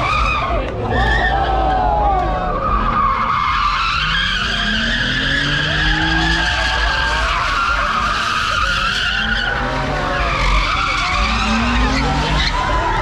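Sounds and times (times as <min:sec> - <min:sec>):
car engine revving: 0:00.0 - 0:13.0
car tires squealing: 0:00.0 - 0:13.0.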